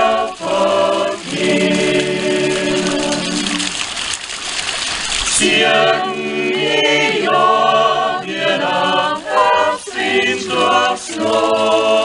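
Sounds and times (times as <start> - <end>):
choir singing a cappella: 0.0 - 3.7, 5.3 - 12.0.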